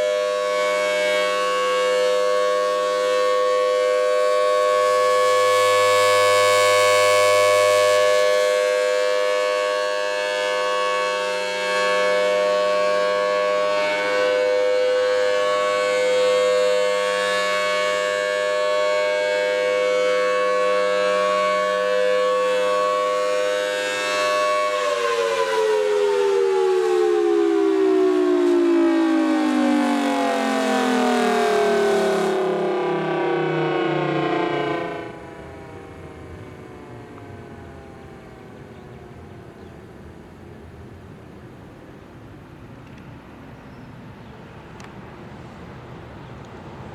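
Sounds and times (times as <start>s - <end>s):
civil defense siren: 0.0s - 43.0s.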